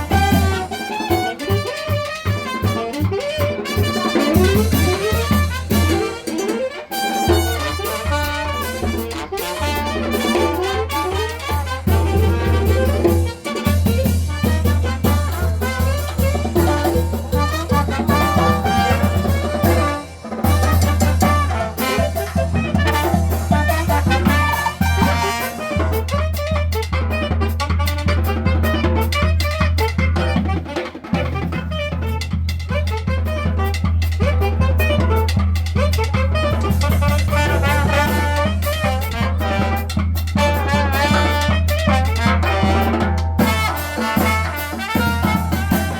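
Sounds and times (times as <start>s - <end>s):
marching brass band playing: 0.0s - 45.9s
steady drum beat: 0.0s - 45.9s.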